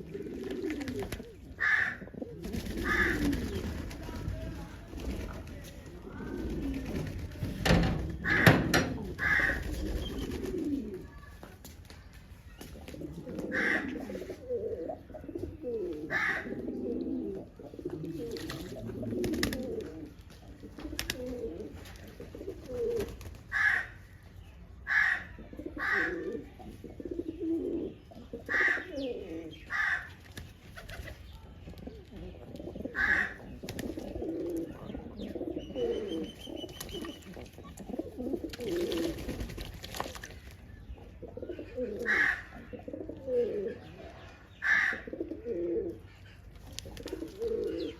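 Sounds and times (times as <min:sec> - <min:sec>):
pigeons cooing: 0:00.0 - 0:11.3, 0:12.7 - 0:24.1, 0:24.8 - 0:40.1, 0:40.9 - 0:47.9.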